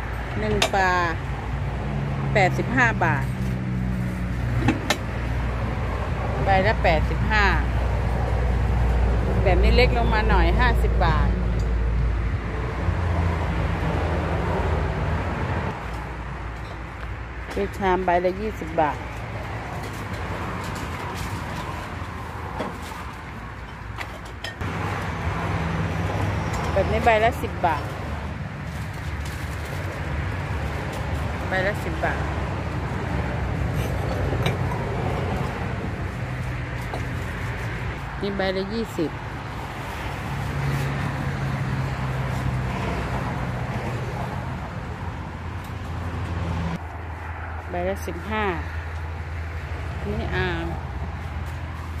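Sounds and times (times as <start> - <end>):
road noise: 0.0 - 52.0
vehicle engine humming: 0.0 - 52.0.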